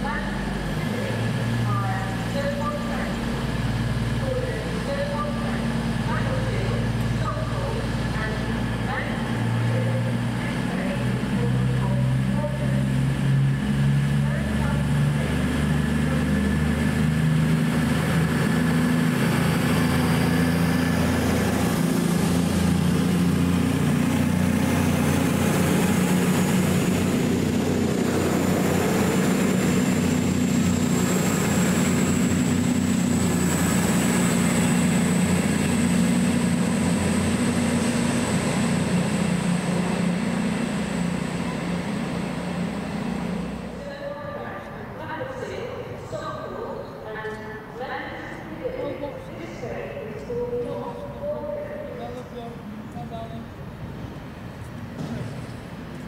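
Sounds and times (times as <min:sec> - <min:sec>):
diesel train engine running: 0:00.0 - 0:56.0.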